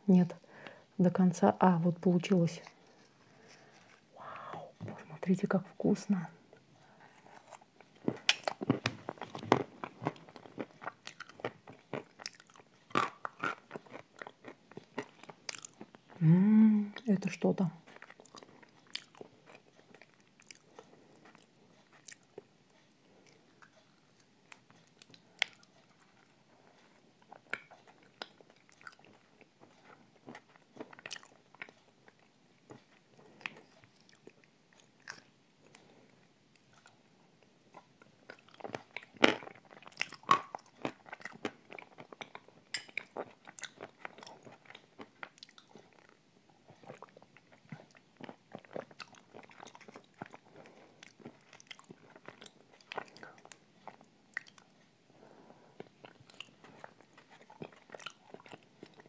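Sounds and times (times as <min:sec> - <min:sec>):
soft chewing and mouth clicks: 0:01.5 - 0:59.0.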